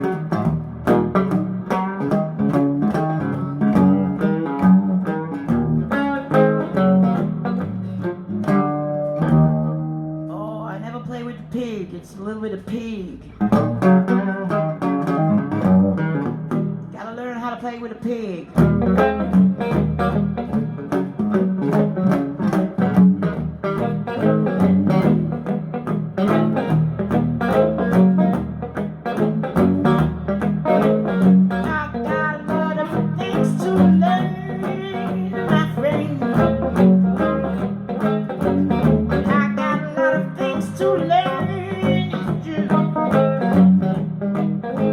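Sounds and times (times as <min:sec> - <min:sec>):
bass line: 0:00.0 - 0:16.9, 0:18.5 - 0:44.9
guitar playing: 0:00.0 - 0:44.9.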